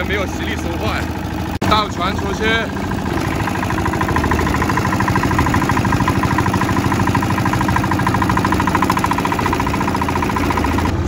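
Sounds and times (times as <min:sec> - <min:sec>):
boat diesel engine chugging: 0:00.0 - 0:11.0.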